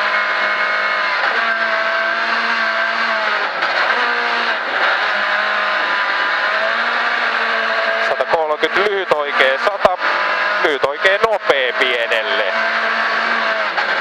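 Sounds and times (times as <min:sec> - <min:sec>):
car engine revving through gears: 0:00.0 - 0:14.0.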